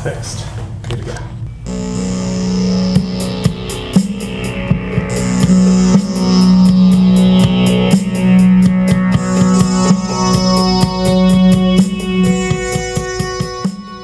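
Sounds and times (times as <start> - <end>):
drum beat: 1.7 - 14.0
electric guitar: 1.7 - 14.0.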